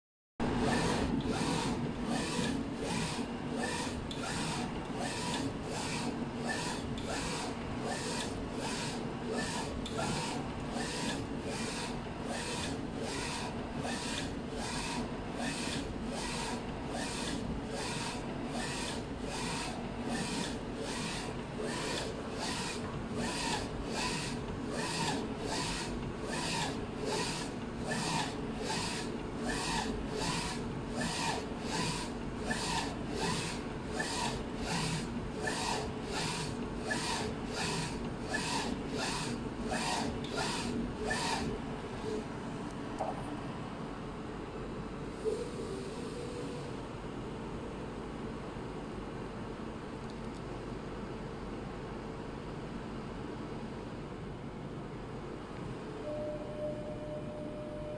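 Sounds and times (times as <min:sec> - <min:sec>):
steady machine hum: 0:00.4 - 0:49.9, 0:50.6 - 0:57.9.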